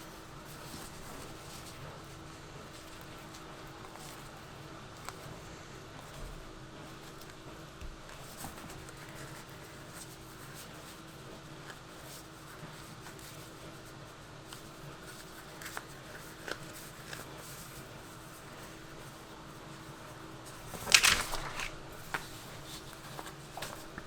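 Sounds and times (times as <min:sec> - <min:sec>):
rustling of glove handled: 0:00.0 - 0:24.0.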